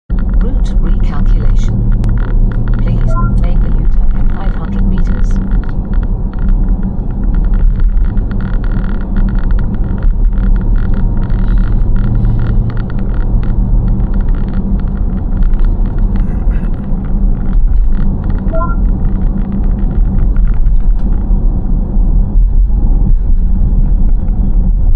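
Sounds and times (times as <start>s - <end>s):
road and engine rumble: 0.0s - 24.9s.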